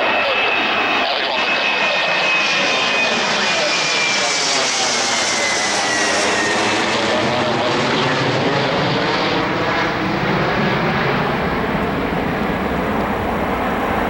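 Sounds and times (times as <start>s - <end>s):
jet engines passing close: 0.0s - 14.0s.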